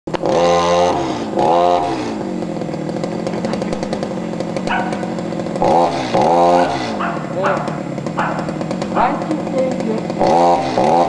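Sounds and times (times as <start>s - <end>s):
chainsaw revving and idling: 0.1s - 11.0s.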